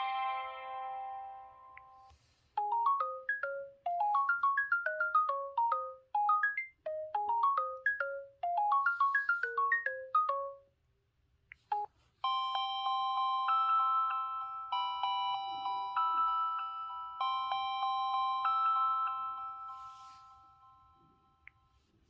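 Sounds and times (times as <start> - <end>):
phone ringtone melody: 0.0 - 10.7, 11.7 - 21.9
ringtone with held chord tones: 0.0 - 10.8, 11.7 - 22.0.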